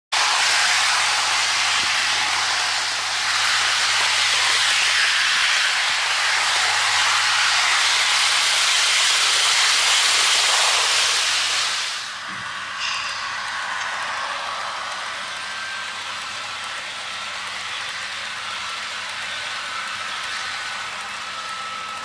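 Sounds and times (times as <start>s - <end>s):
model train hiss: 0.2s - 22.0s.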